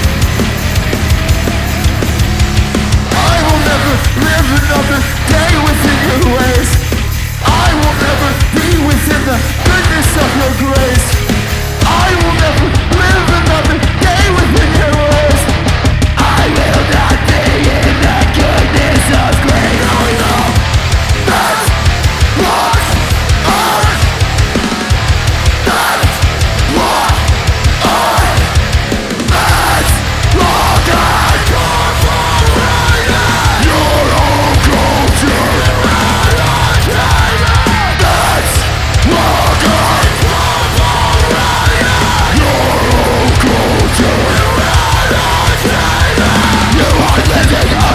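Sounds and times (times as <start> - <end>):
heavy rock music: 0.0 - 47.9.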